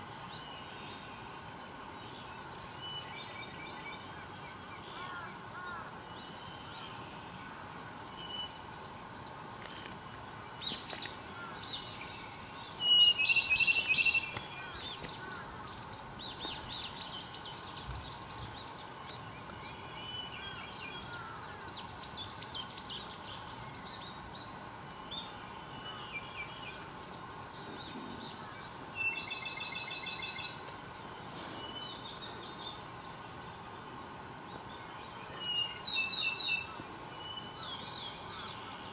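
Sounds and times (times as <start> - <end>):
steady outdoor hiss: 0.0 - 38.9
wild birds calling and singing: 2.0 - 38.9.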